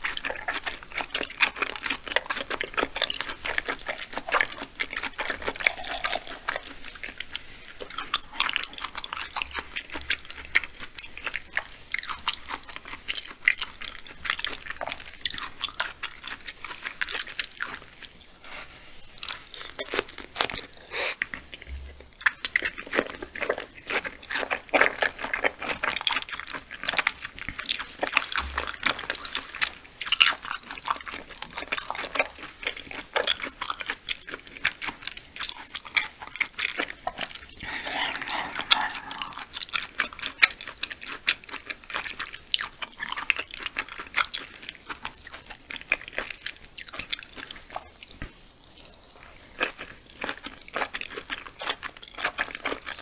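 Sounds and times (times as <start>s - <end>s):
chewing mouth clicks: 0.0s - 18.4s, 19.2s - 53.0s.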